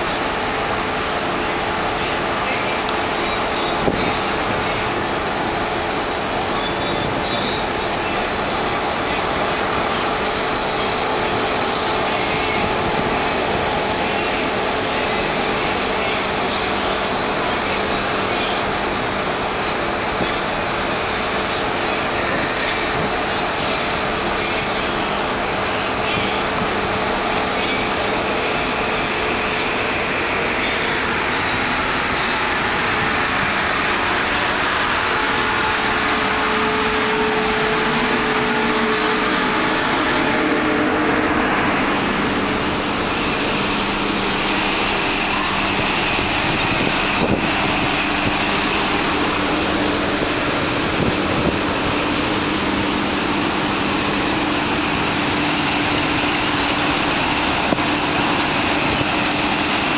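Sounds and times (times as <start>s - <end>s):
constant rushing roar: 0.0s - 59.9s
machinery humming: 0.0s - 59.9s.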